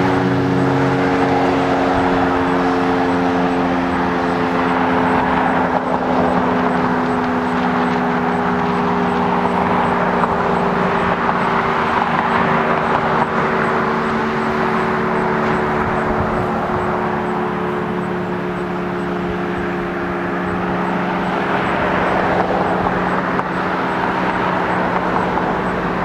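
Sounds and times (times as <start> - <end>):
tornado siren sustained chord: 0.0 - 26.0.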